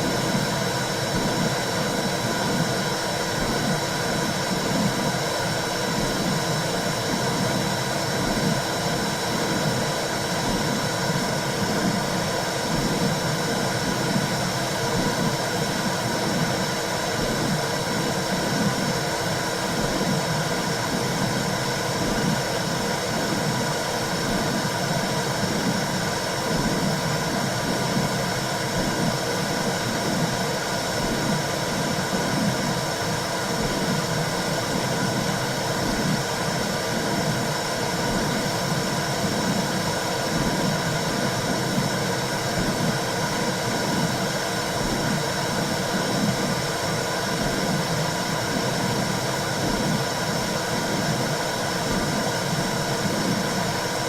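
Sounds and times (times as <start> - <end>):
steady rushing white noise: 0.0 - 54.0.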